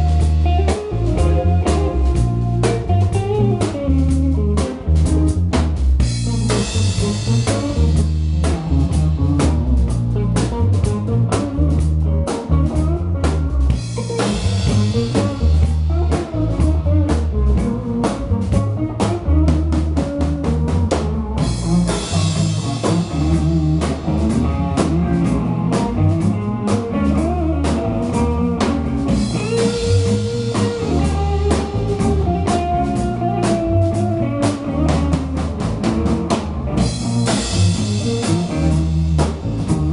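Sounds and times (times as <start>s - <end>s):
electric guitar line: 0.0s - 39.9s
live rock band playing: 0.0s - 39.9s.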